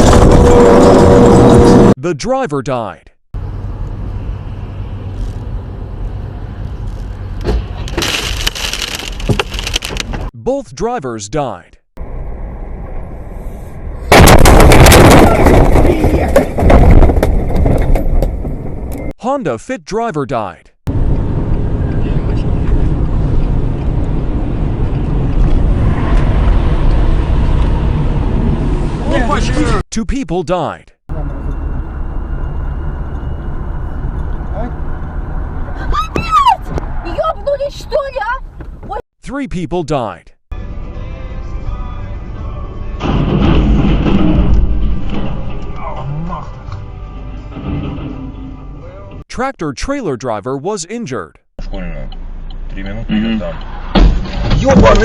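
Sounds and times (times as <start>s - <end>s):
car engine and road noise: 0.0s - 2.0s, 2.7s - 10.4s, 11.4s - 14.6s, 15.9s - 19.2s, 20.9s - 29.8s, 30.6s - 39.0s, 40.0s - 49.2s, 50.9s - 55.0s.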